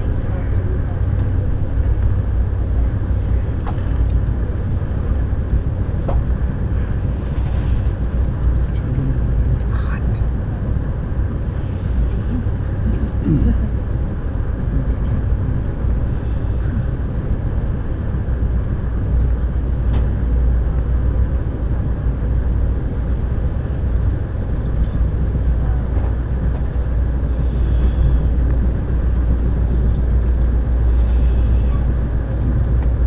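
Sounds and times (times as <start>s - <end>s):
train rumbling at speed: 0.0s - 33.0s
wheel-on-rail noise: 0.0s - 33.0s.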